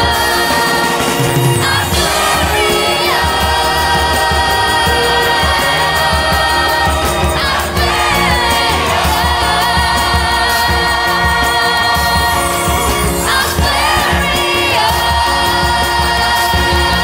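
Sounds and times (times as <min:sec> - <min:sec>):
choir holding a chord: 0:00.0 - 0:17.0
orchestra with strings: 0:00.0 - 0:17.0
steady bass beat: 0:01.6 - 0:17.0.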